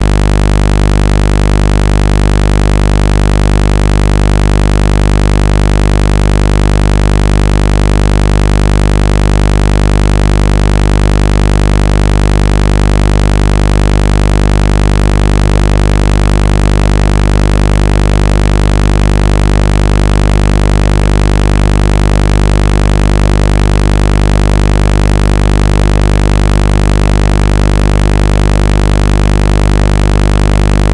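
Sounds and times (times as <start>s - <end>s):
low electronic buzzing tone: 0.0s - 30.9s.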